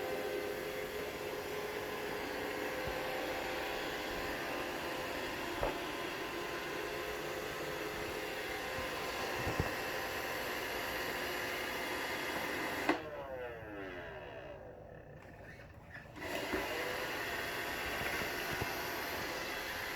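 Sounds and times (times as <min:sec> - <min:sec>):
robot vacuum motor humming: 0:00.0 - 0:19.9.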